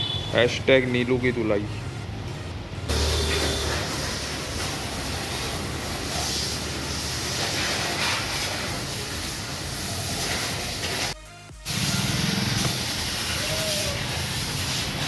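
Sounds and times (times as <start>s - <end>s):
pressure washer spraying water: 2.9s - 15.0s.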